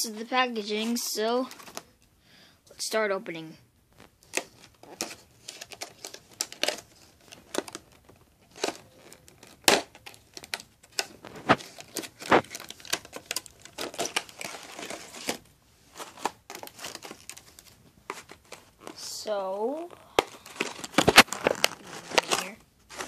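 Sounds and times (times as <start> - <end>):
plastic packaging crinkling: 4.0 - 23.0.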